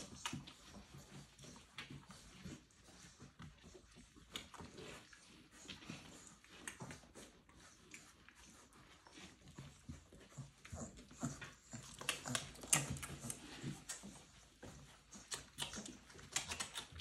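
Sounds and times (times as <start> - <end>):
puppies low vocal sounds: 0.0 - 17.0
puppies scuffling: 0.0 - 17.0.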